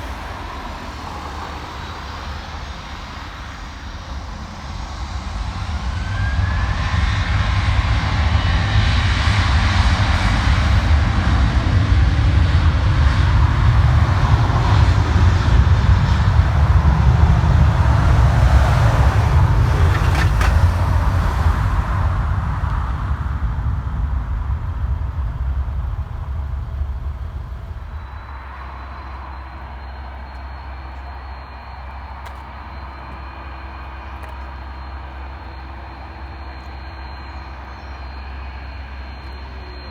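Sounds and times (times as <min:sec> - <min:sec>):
jet airliner passing: 0:00.0 - 0:39.9.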